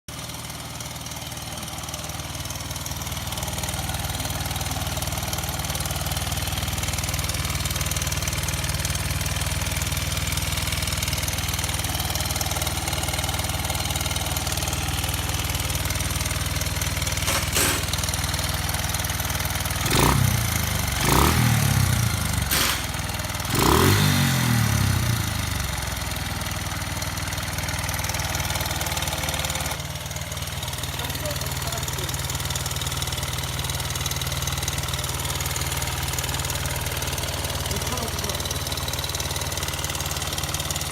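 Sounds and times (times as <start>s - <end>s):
motorcycle engine idling and revving: 0.1s - 40.9s.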